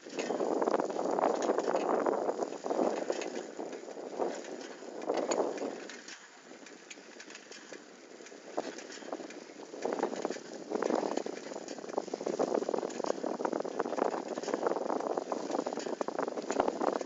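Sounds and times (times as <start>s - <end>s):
bicycle tyres rumbling: 0.0s - 17.0s
wind noise: 0.0s - 17.0s
light rattling ticks: 1.1s - 17.0s.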